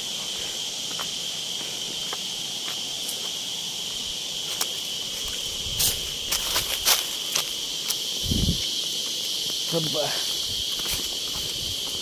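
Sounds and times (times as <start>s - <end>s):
insects shrilling: 0.0s - 12.0s
footsteps on rocky ground: 0.8s - 3.4s, 4.4s - 12.0s.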